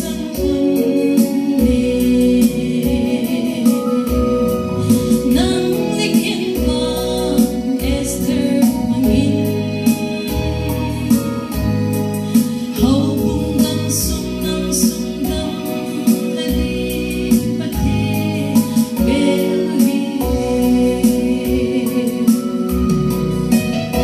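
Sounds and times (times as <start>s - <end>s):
bass with steady beat: 0.0s - 24.0s
sustained keyboard chords: 0.0s - 24.0s
woman singing into a microphone: 0.0s - 24.0s.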